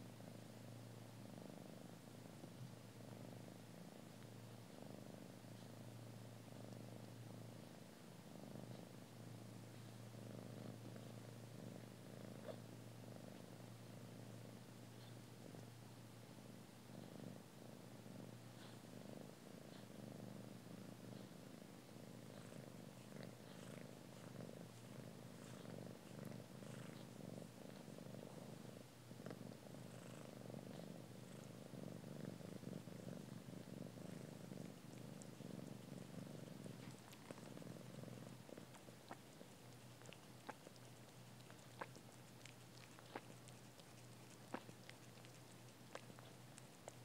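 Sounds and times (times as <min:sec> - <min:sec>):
cat purring: 0:00.0 - 0:47.0.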